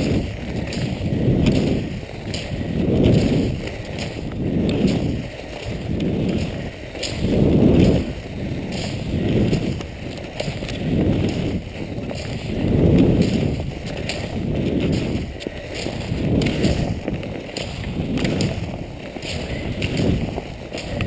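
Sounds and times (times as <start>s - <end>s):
light ski clicks: 0.0s - 21.0s
skis swishing over snow: 0.0s - 21.0s.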